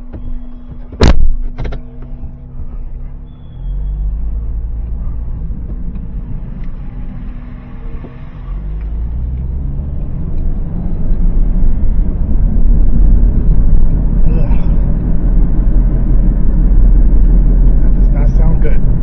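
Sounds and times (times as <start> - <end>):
car engine pulling away: 0.0 - 19.0
low road rumble: 0.0 - 19.0.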